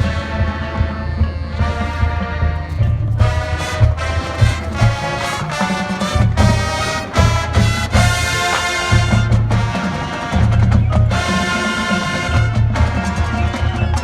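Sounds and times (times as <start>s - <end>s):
pulsing bass: 0.0s - 11.5s
brass chords: 0.0s - 14.0s
marching band playing: 0.0s - 14.0s.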